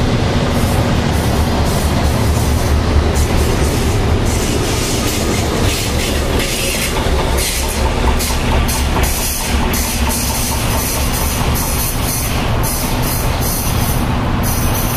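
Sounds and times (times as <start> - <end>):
diesel locomotive rumbling: 0.0 - 14.9
train wheels clicking on rail joints: 0.0 - 14.9.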